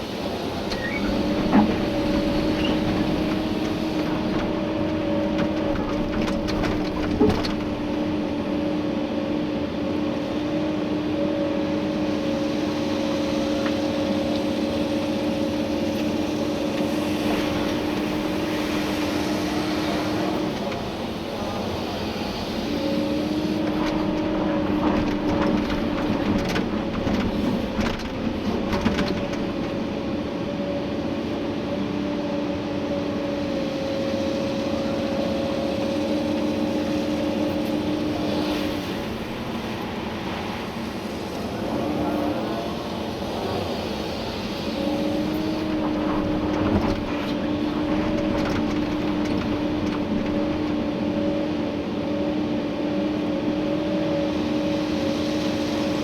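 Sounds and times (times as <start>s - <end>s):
excavator engine and hydraulic whine: 0.0s - 56.0s.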